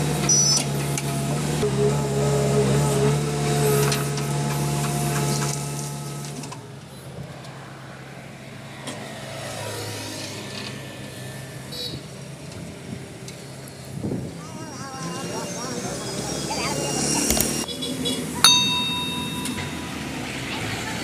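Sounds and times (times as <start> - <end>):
passing traffic: 0.0 - 21.0.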